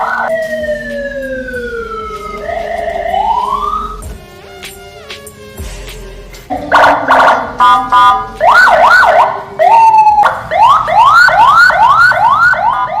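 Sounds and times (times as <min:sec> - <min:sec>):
electronic siren cycling tones: 0:00.0 - 0:04.2, 0:06.5 - 0:13.0.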